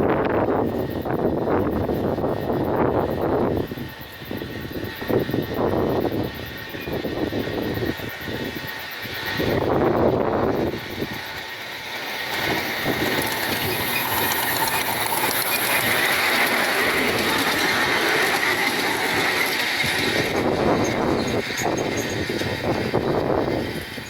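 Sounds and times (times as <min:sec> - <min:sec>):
steam exhaust: 0:00.0 - 0:24.0
steam locomotive running: 0:00.0 - 0:24.0
wheels on rails: 0:00.0 - 0:24.0.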